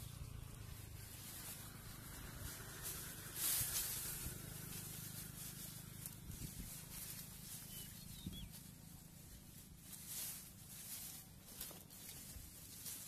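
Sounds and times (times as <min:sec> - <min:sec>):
straw and branches rustling: 0:00.0 - 0:13.0.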